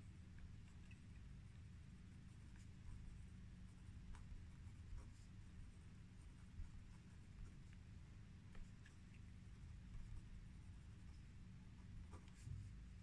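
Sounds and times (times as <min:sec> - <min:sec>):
pen scratching on paper: 0:02.1 - 0:13.0.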